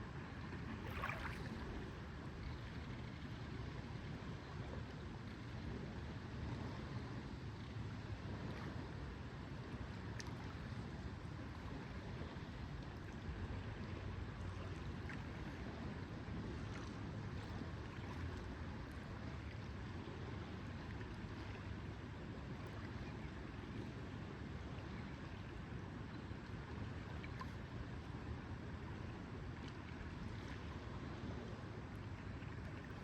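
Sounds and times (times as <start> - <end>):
lake water wash: 0.0 - 33.0
wind: 0.0 - 33.0.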